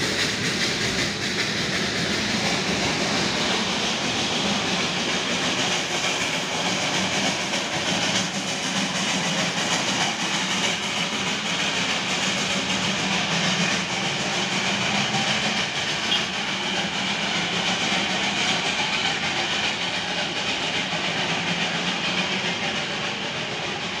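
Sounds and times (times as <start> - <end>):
steam hissing: 0.0 - 24.0
train rolling on rails: 0.0 - 24.0.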